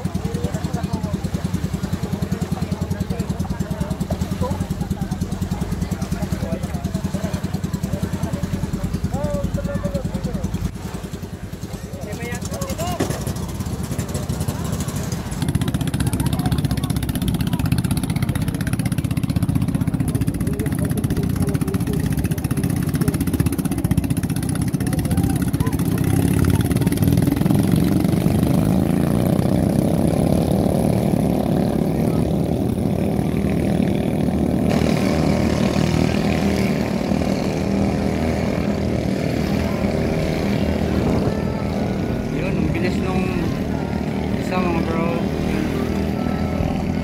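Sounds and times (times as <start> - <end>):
small boat engines running: 0.0 - 47.0.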